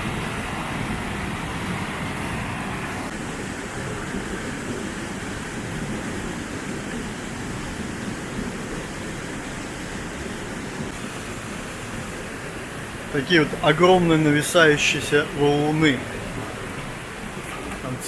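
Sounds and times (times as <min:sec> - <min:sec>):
small waterfall rushing: 0:00.0 - 0:18.0.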